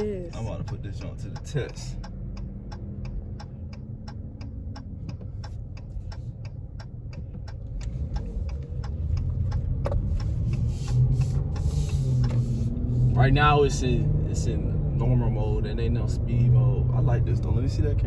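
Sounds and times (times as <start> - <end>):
car engine humming: 0.0 - 18.0
turn signal ticking: 0.0 - 18.0.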